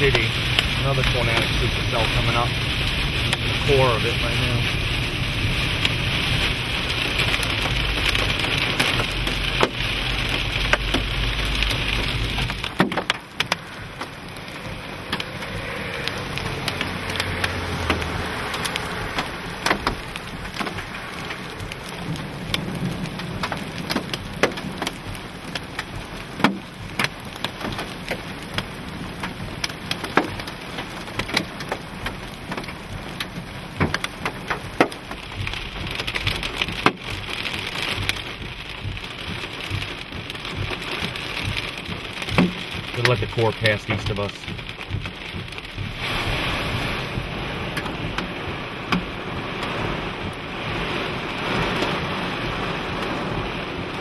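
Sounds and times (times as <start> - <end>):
low rumble: 0.0 - 29.9, 31.9 - 54.0
hailstones clicking on gravel: 0.0 - 54.0
heavy rain on a car: 0.0 - 54.0
steady rain falling outdoors: 0.0 - 54.0.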